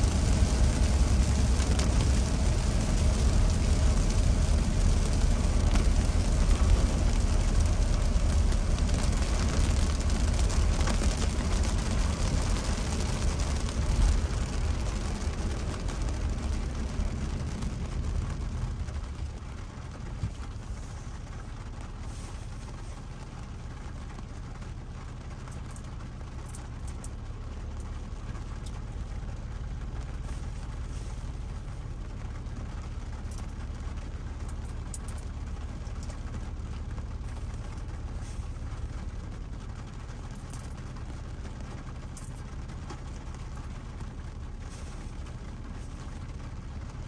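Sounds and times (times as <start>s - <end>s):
low road rumble: 0.0s - 47.0s
rain pattering on car: 0.0s - 47.0s
tyres hissing on wet road: 0.0s - 47.0s.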